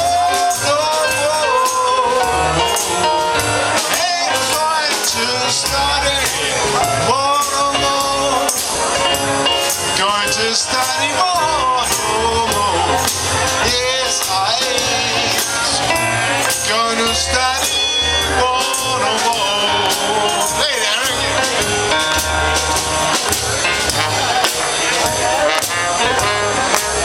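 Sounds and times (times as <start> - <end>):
music with singing voice: 0.0 - 27.0
steady percussive beat: 0.0 - 27.0.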